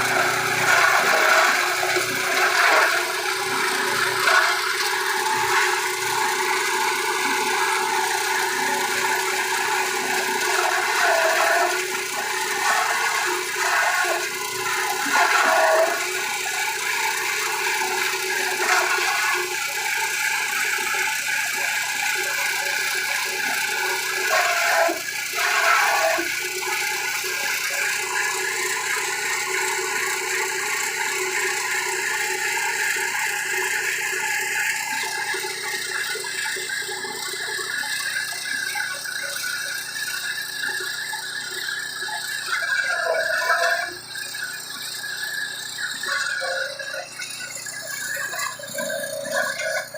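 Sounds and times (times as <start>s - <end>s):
grass chopper machine running: 0.0s - 49.9s.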